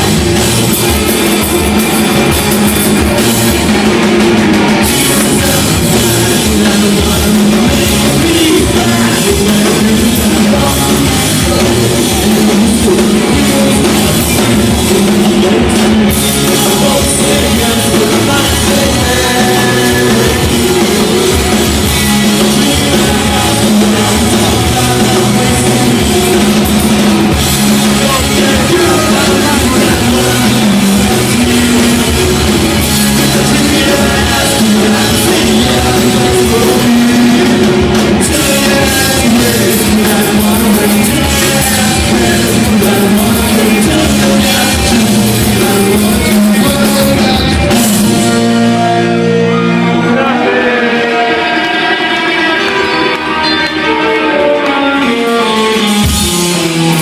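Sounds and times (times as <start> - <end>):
drum kit: 0.0 - 57.0
electric guitar: 0.0 - 57.0
person singing: 0.0 - 57.0.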